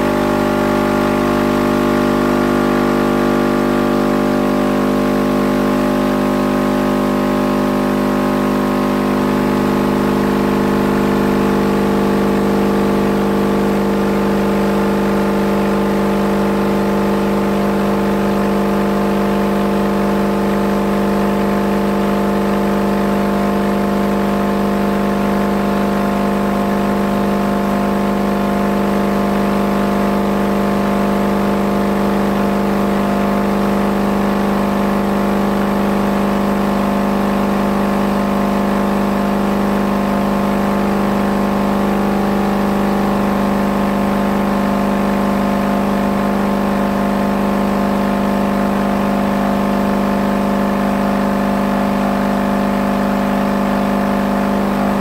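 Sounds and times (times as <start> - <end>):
subwoofer buzzy drone: 0.0 - 55.0.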